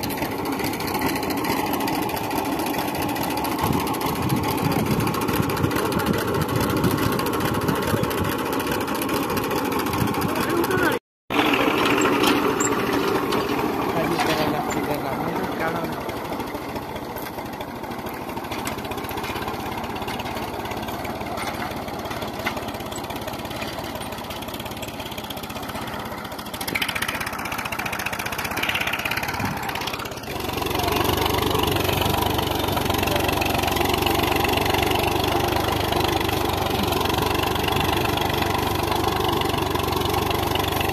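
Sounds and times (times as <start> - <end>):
diesel tractor engine idling: 0.0 - 40.9.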